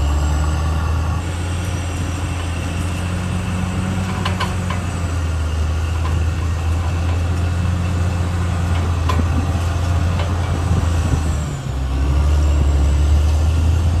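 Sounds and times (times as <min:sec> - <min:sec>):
bulldozer diesel engine droning: 0:00.0 - 0:14.0.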